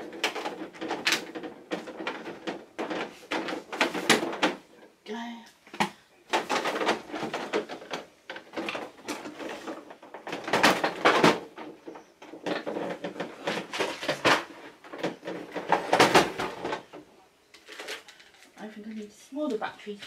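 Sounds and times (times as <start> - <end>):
plastic toys clattering: 0.0 - 5.0, 5.7 - 20.0.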